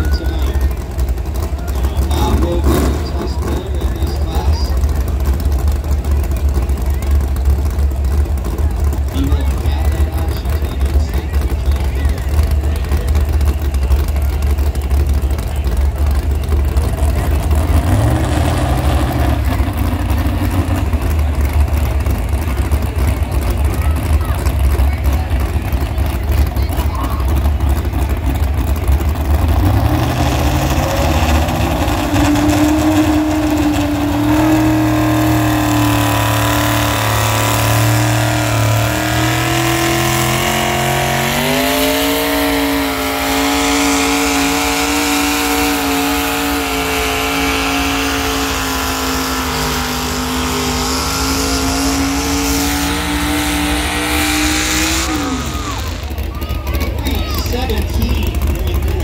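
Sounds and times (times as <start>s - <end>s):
tractor engine revving: 0.0s - 59.0s.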